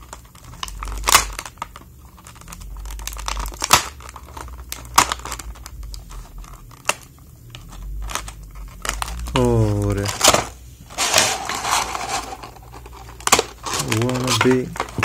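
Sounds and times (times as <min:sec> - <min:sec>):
plastic packaging crinkling: 0:00.0 - 0:15.0
sharp plastic crackles: 0:00.0 - 0:15.0.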